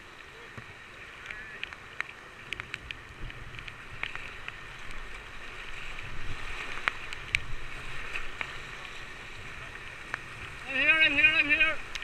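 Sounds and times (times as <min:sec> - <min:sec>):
paddle strokes in water: 0:00.0 - 0:12.0
rapids rushing: 0:00.0 - 0:12.0
water splashes and drips: 0:00.0 - 0:12.0.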